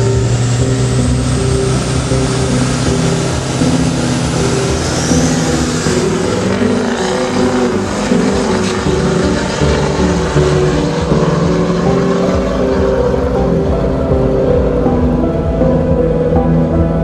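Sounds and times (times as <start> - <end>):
background music: 0.0 - 17.0
truck engine running hard: 0.0 - 17.0.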